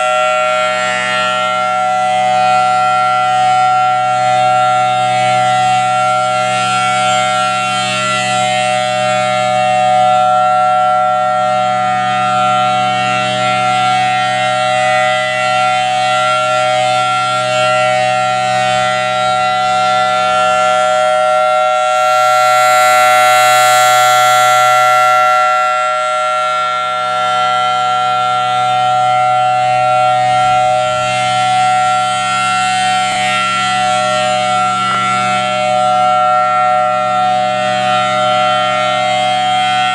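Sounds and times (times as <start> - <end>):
storm siren chord: 0.0 - 39.9.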